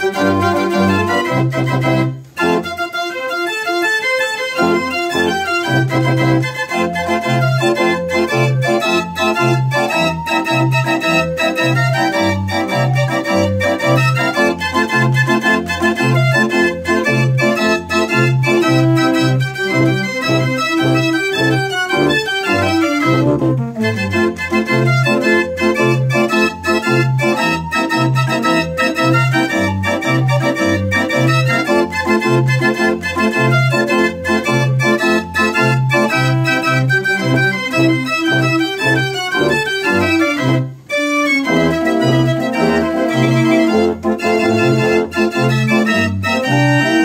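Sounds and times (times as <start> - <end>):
mechanical organ playing: 0.0 - 47.0.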